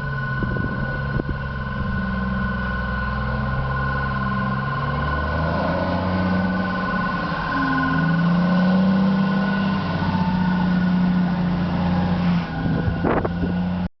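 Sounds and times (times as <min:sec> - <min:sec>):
vehicle engine running: 0:00.0 - 0:13.9.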